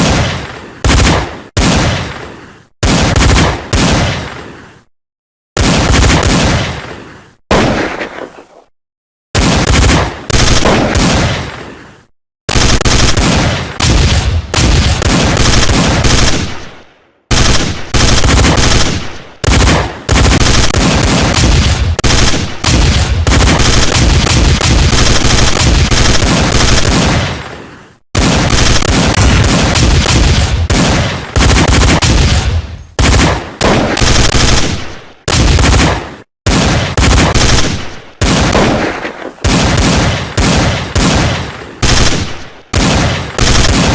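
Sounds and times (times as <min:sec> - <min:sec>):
machine-gun fire: 0:00.0 - 0:04.5, 0:05.6 - 0:08.4, 0:09.4 - 0:11.7, 0:12.5 - 0:27.4, 0:28.2 - 0:43.9.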